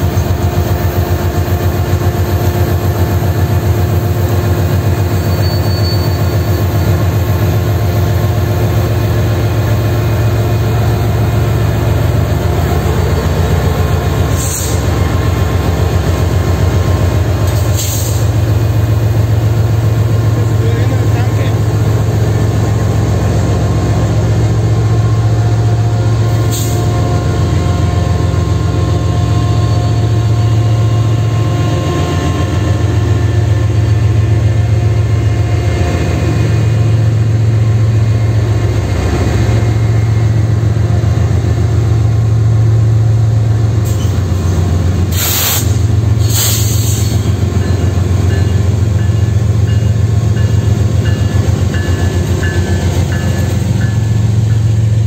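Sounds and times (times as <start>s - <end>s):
diesel locomotives rumbling past: 0.0s - 55.0s.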